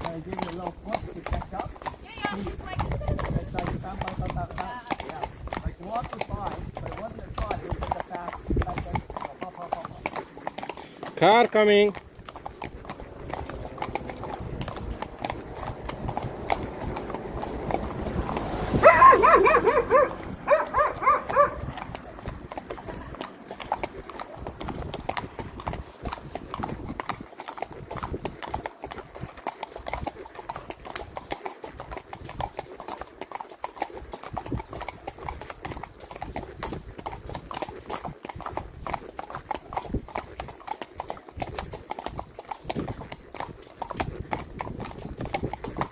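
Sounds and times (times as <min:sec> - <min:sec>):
horse hooves clip-clopping on road: 0:00.0 - 0:45.9.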